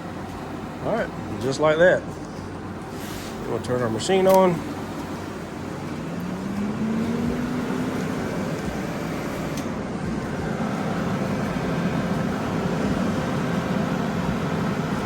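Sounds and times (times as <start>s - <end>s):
welding machine cooling fan hum: 0.0s - 15.0s.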